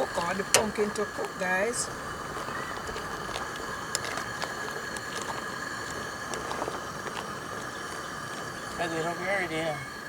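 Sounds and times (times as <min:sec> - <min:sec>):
pot simmering with pops: 0:00.0 - 0:10.0
steady background hiss: 0:00.0 - 0:10.0.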